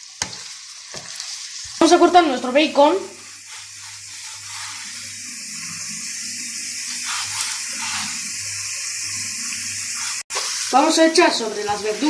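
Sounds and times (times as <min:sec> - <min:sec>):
vegetables frying in oil: 0:00.0 - 0:12.0.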